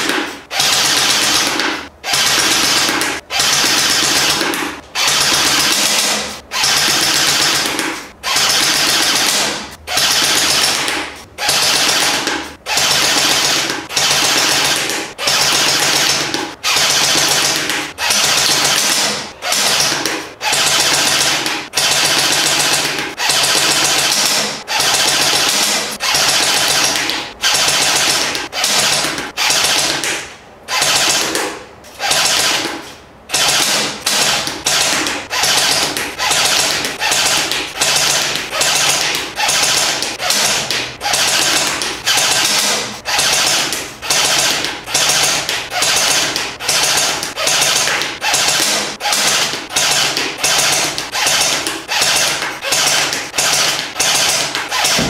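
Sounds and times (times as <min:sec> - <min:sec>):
electric airsoft rifle firing bursts: 0:00.0 - 0:55.0.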